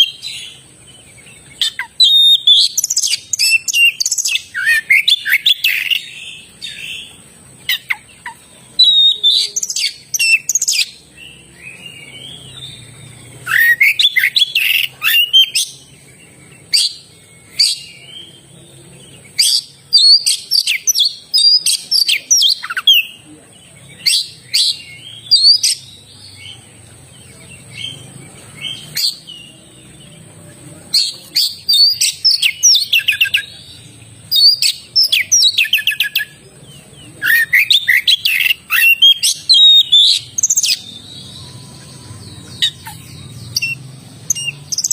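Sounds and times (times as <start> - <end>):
magpie-robin singing: 0.0 - 44.9.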